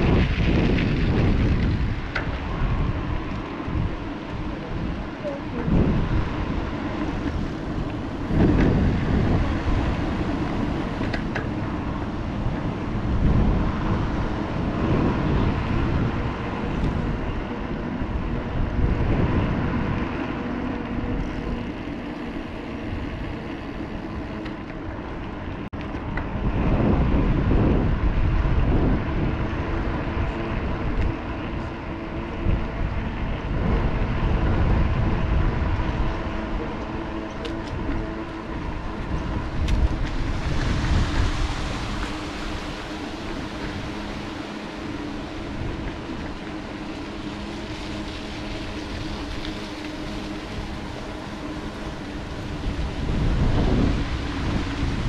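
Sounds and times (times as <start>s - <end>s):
steady pitched hum: 0.0s - 55.0s
wind buffeting microphone: 0.0s - 55.0s.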